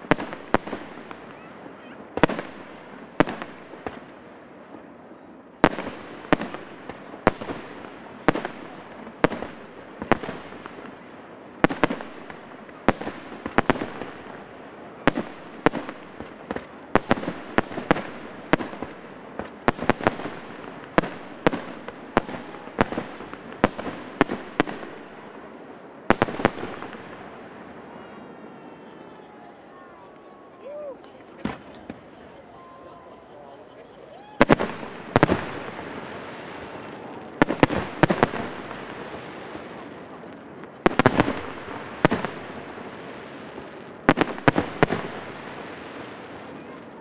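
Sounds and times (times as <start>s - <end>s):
fireworks crackling: 0.0s - 47.0s.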